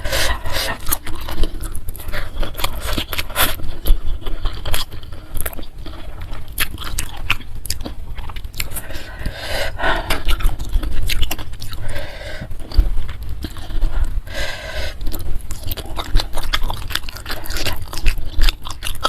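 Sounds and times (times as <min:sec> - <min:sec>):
chewing and crunching food: 0:00.0 - 0:19.0
wet mouth sounds: 0:00.0 - 0:19.0.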